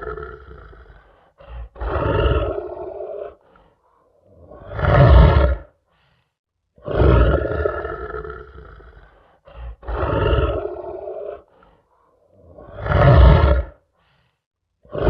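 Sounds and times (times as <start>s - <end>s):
lion grunt: 0.0s - 5.8s, 6.8s - 13.8s
lion roaring: 0.0s - 5.8s, 6.8s - 13.8s.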